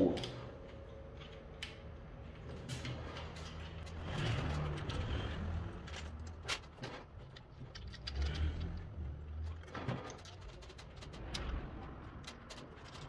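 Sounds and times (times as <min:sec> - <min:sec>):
metal washers and bolts clicking: 0:00.0 - 0:13.0.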